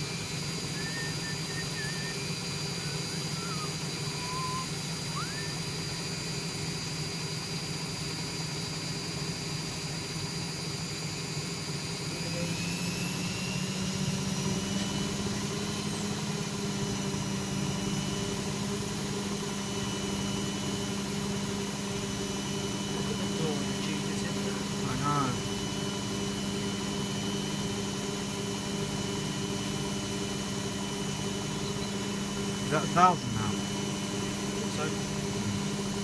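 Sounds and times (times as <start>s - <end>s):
washing machine spinning: 0.0s - 36.0s.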